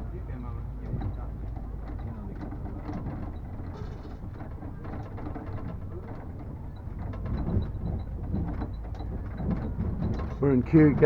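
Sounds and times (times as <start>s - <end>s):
trailer rattling and knocking: 0.0s - 11.0s.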